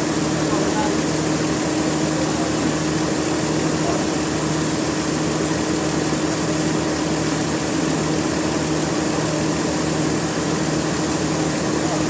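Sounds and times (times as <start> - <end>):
machinery engine hum: 0.0 - 12.0.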